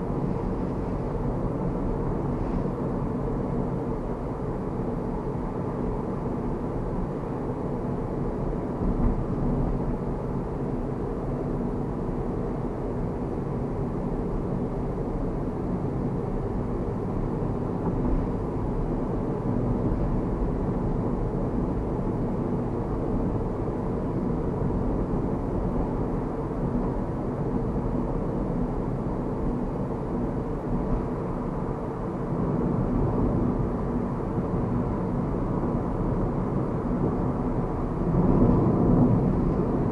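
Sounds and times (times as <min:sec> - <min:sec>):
car road and engine drone: 0:00.0 - 0:39.9.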